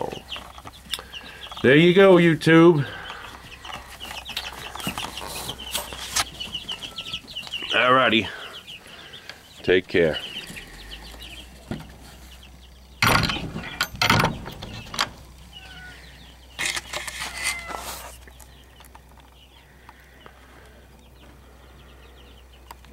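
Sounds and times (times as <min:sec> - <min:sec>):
chicks cheeping: 0:00.0 - 0:22.9.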